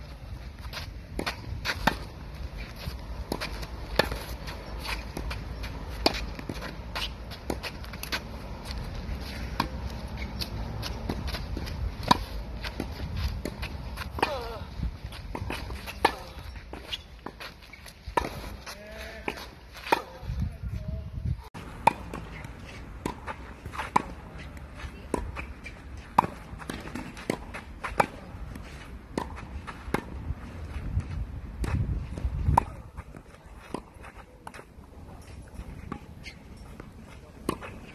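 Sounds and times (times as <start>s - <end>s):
footsteps on clay: 0.0s - 37.9s
tennis racket hitting ball: 1.1s - 20.3s, 21.6s - 30.2s, 31.6s - 34.6s.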